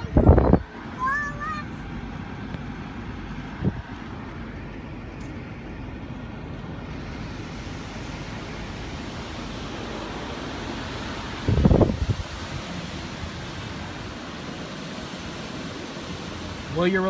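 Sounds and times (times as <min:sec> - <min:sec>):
water spraying on car: 0:00.0 - 0:17.0.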